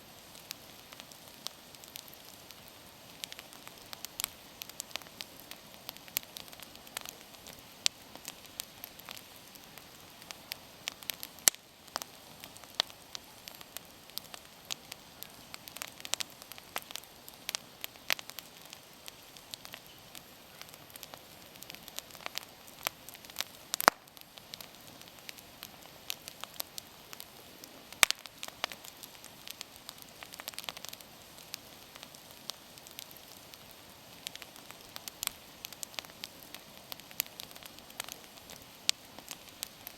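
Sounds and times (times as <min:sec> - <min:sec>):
bonfire crackling and popping: 0:00.0 - 0:39.9
fire hissing: 0:00.0 - 0:39.9.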